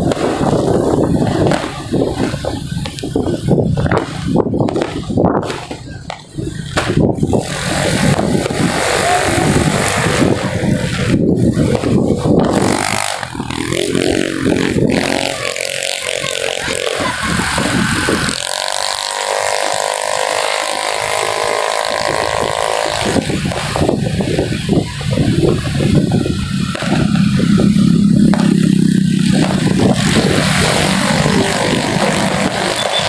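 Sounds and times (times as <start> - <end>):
motorbike engines running: 0.0 - 33.0
wind rumble on microphone: 0.0 - 33.0.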